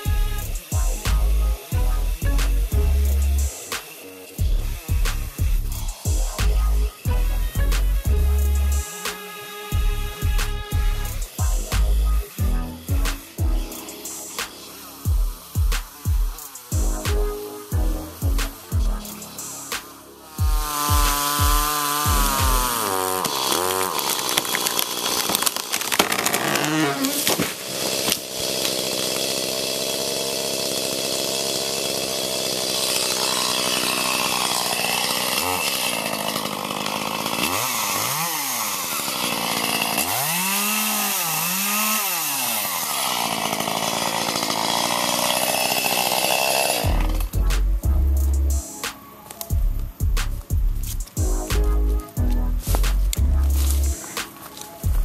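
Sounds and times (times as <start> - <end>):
chainsaw cutting tree trunk: 0.0 - 48.1, 48.8 - 55.0.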